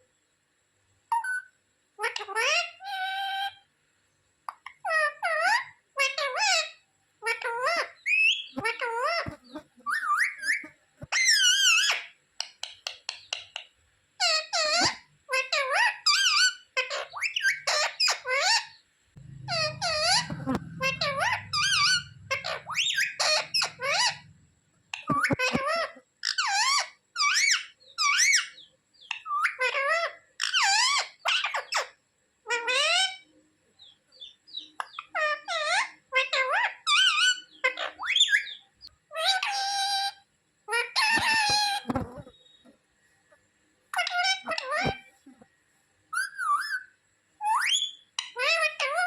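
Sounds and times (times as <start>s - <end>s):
parrot calling and chattering: 1.1s - 3.7s, 4.5s - 33.3s, 34.2s - 42.4s, 43.9s - 45.4s, 46.1s - 49.0s.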